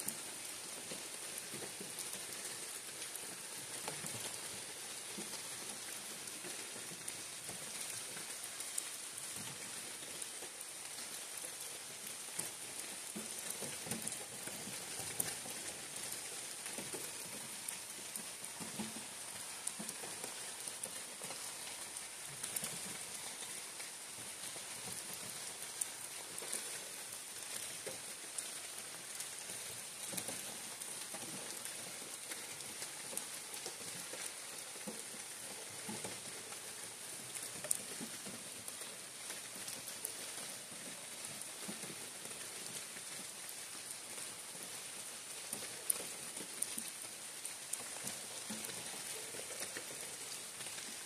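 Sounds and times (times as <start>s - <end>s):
rain hiss in forest canopy: 0.0s - 51.0s
raindrops ticking and tapping: 0.0s - 51.0s.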